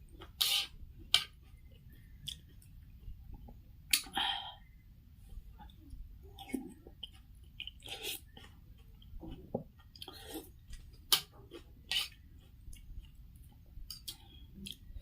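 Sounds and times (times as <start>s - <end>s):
chewing and eating: 0.0s - 4.0s, 5.3s - 15.0s.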